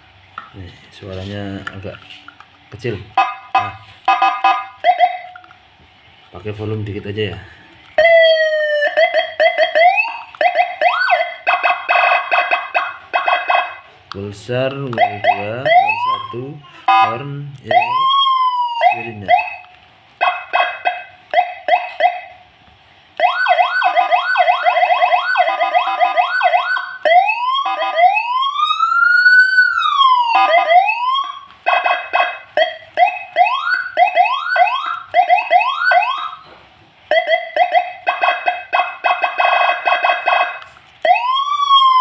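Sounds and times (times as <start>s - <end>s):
electronic siren: 2.9s - 5.6s, 7.9s - 22.5s, 23.2s - 42.0s.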